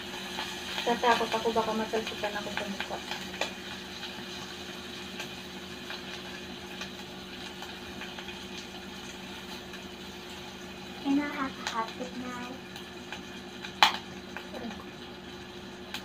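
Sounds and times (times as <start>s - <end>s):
meat sizzling on a grill pan: 0.0s - 16.0s.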